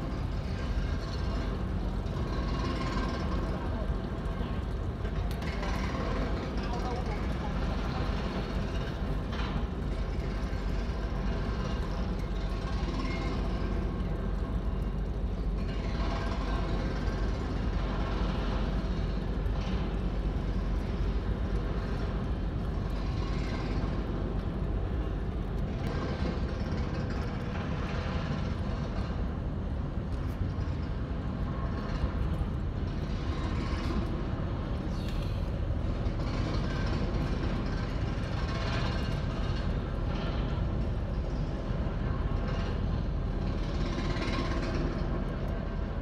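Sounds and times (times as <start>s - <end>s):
heavy engines rumbling: 0.0s - 46.0s.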